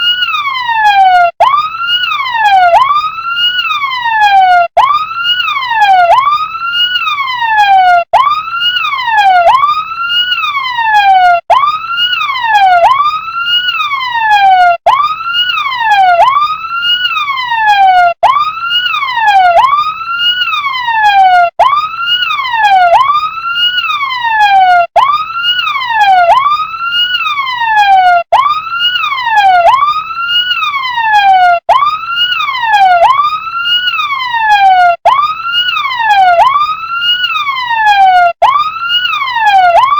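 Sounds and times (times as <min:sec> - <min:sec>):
toy fire truck siren: 0:00.0 - 0:39.9.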